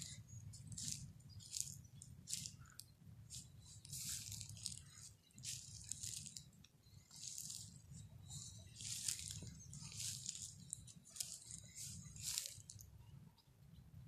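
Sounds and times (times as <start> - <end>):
footsteps crunching through dry grass: 0.0 - 12.8
faint low rumble: 0.0 - 14.0.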